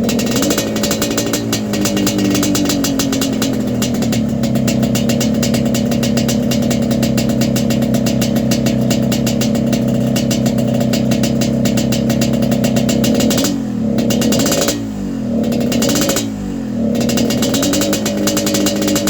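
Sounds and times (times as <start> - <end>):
two-stroke motorcycle engine running: 0.0 - 19.0.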